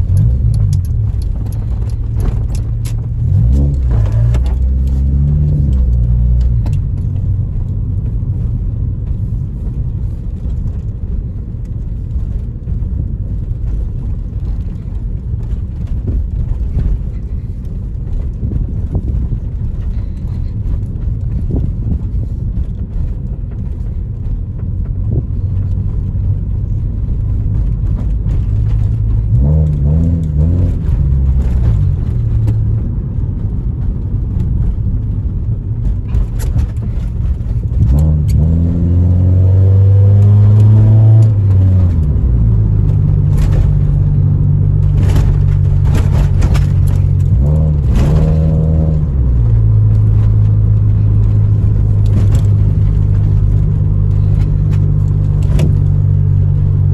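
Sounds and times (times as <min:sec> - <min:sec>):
car engine revving while driving: 0:00.0 - 0:56.9.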